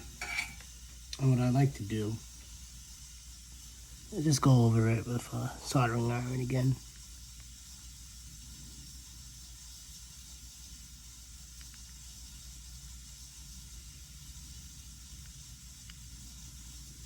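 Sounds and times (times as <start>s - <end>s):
faint hiss: 0.0s - 17.0s
low electrical hum: 0.0s - 17.0s.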